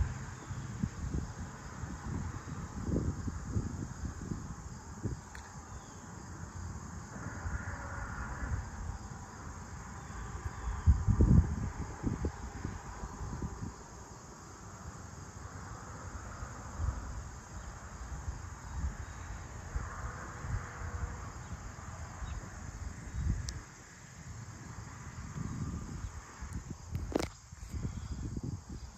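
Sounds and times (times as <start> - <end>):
insect chorus: 0.0 - 28.9
wind rumbling on microphone: 0.0 - 28.9.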